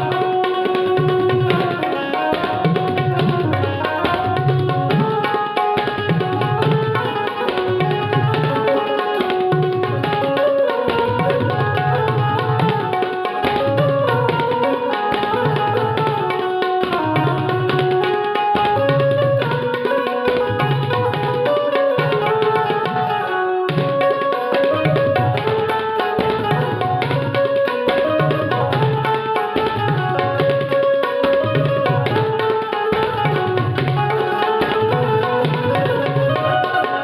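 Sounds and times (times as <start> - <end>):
keyed banjo melody: 0.0 - 37.0
tabla playing a dense rhythm: 0.0 - 37.0.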